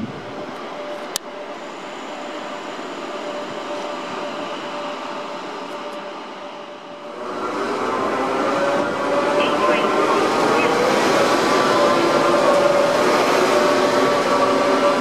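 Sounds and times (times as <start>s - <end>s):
electric train approaching: 0.0s - 15.0s.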